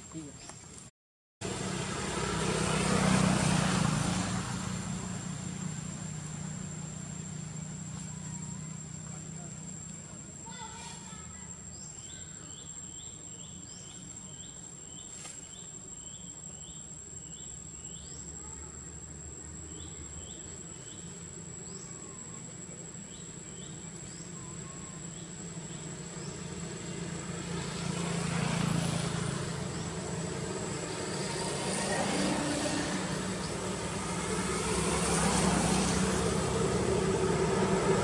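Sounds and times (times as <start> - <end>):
insect drone with chirps: 1.4 - 38.0.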